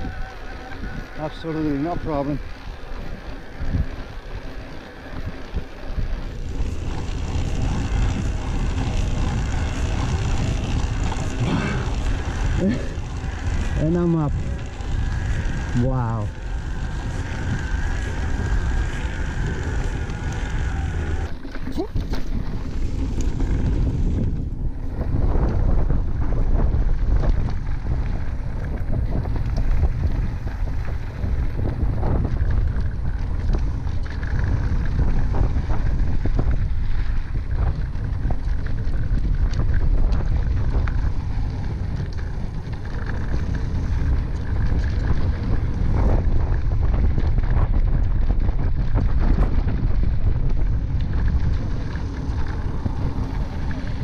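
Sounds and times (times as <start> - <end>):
bike clicks and rattles: 0.0 - 54.0
tyre noise on dirt: 0.0 - 54.0
wind buffeting microphone: 0.0 - 54.0.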